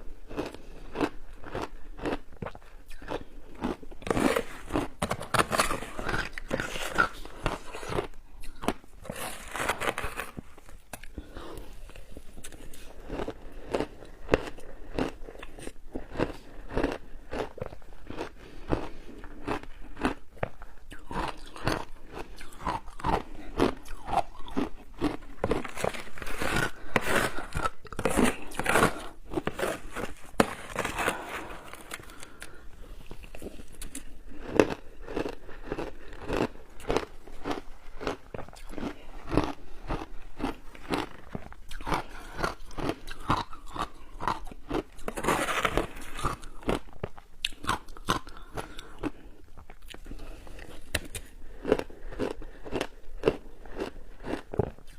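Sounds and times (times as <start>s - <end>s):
ice being crunched and chewed: 0.0s - 54.9s.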